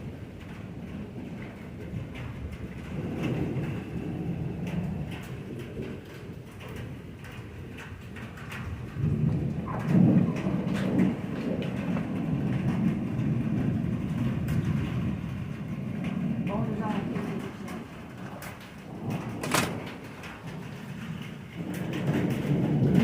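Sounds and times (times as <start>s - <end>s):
raindrops ticking: 0.0s - 23.0s
steady rain: 0.0s - 23.0s
thunder rumbling: 0.0s - 23.0s.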